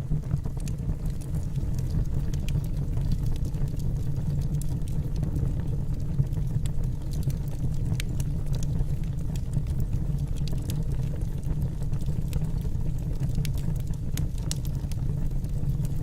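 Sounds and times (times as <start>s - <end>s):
burning wood crackling and popping: 0.0s - 16.0s
low rumble of flame: 0.0s - 16.0s.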